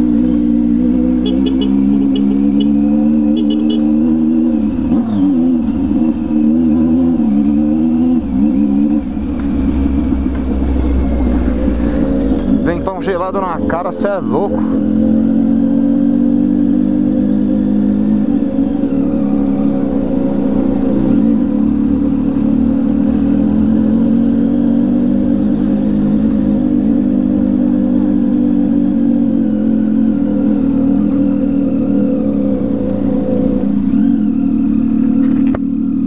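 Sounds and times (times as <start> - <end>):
motorcycle engine cruising: 0.0 - 36.0
low wind rumble: 4.1 - 35.2.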